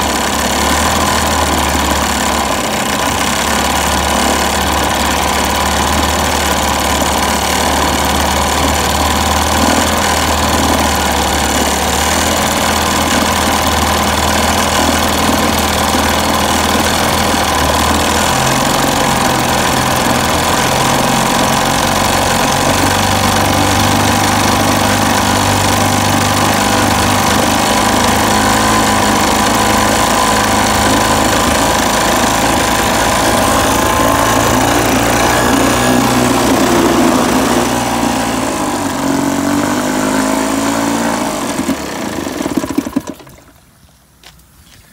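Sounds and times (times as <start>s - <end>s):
outboard motor running: 0.0s - 43.7s.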